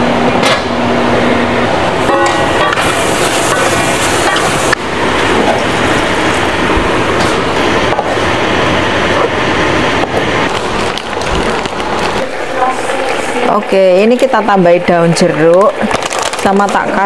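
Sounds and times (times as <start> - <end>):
sauce sizzling and bubbling in a wok: 1.7 - 16.9.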